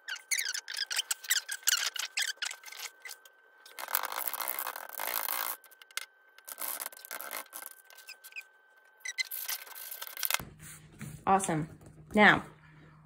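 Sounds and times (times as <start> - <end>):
paper and board rubbing: 0.1 - 8.4, 9.0 - 11.2.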